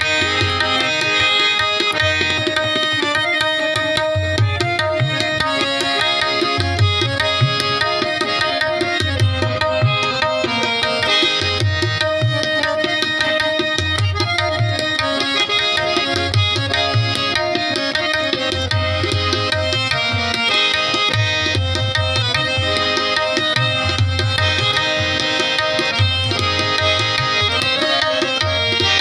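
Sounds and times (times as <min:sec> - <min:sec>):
harmonium chords: 0:00.0 - 0:29.0
tabla drumming: 0:00.0 - 0:29.0.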